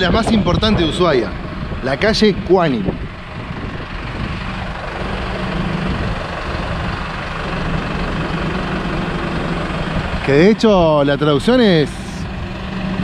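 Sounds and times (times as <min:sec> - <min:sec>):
cars passing: 0:00.0 - 0:13.0
truck engine humming: 0:00.0 - 0:13.0.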